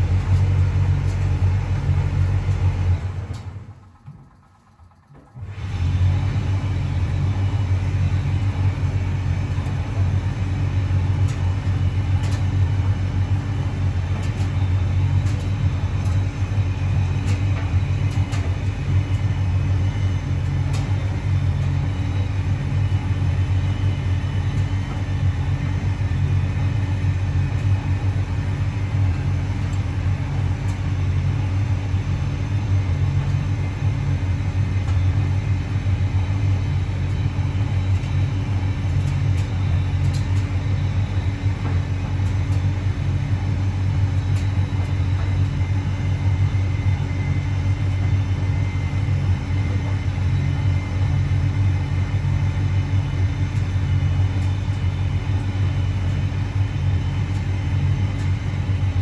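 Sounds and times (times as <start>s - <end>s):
tumble dryer rumbling: 0.0s - 59.0s.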